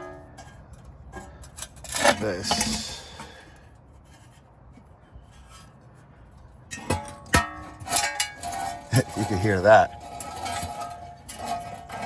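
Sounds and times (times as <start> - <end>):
rough ringing bearing noise: 0.0 - 12.0.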